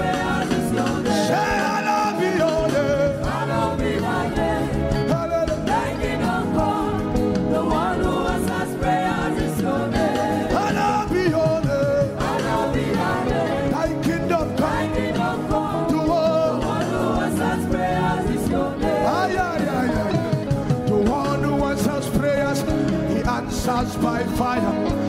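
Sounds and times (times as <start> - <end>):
backing singers singing: 0.0 - 25.0
band accompaniment: 0.0 - 25.0
lead singer singing: 0.0 - 25.0.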